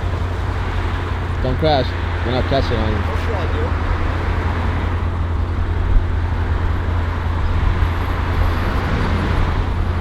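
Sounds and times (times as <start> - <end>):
car engine drone: 0.0 - 10.0
road and wind noise: 0.0 - 10.0.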